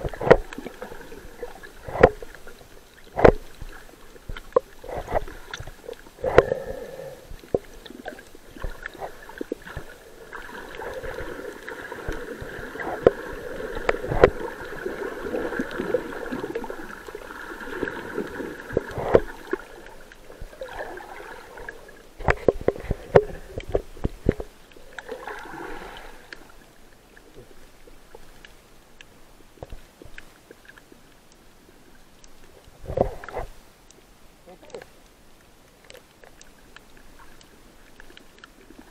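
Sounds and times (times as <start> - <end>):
water gurgling and sloshing: 0.0 - 38.9.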